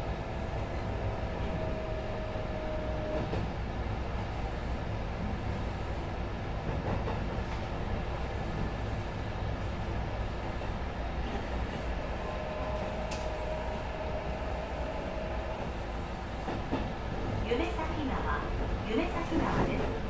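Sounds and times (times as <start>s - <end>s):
train wheels and motors rumbling: 0.0s - 20.0s.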